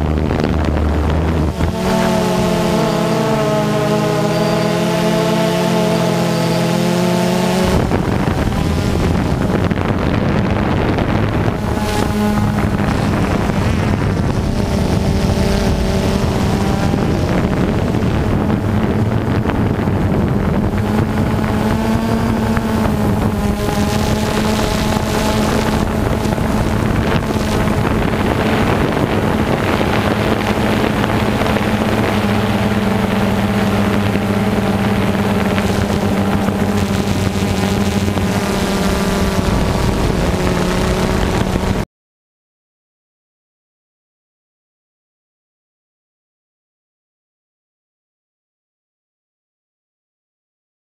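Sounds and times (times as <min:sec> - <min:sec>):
drone propellers humming: 0:00.0 - 0:41.8
wind buffeting microphone: 0:00.0 - 0:41.8.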